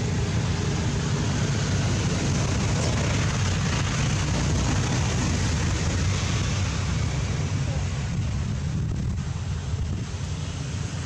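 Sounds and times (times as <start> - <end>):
low rushing noise: 0.0 - 11.0.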